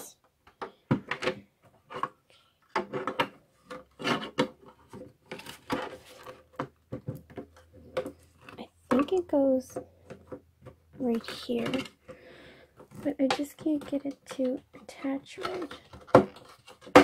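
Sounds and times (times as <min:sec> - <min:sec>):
hard plastic pieces clicking: 0:00.2 - 0:17.0
plastic scraping: 0:00.4 - 0:17.0.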